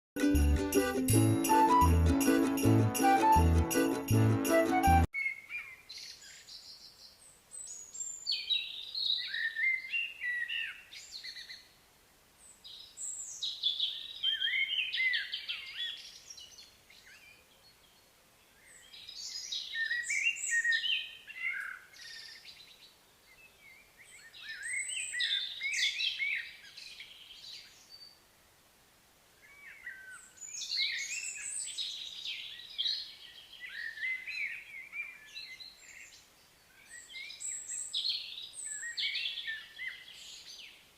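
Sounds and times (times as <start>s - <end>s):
songbird singing: 5.1s - 11.8s, 12.4s - 28.4s, 29.3s - 40.9s.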